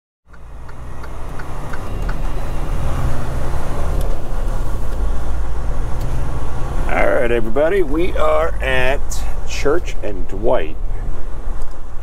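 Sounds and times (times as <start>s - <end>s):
road noise inside cab: 0.2s - 12.0s
truck diesel engine rumble: 0.3s - 12.0s.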